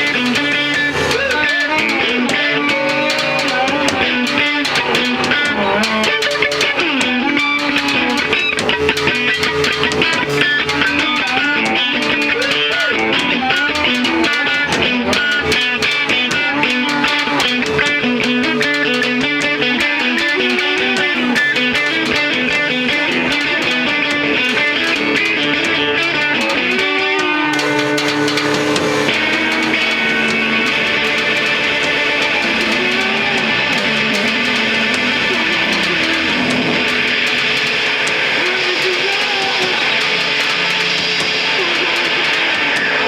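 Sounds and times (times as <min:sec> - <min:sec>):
bass guitar: 0:00.0 - 0:43.0
drums: 0:00.0 - 0:43.0
guitars: 0:00.0 - 0:43.0.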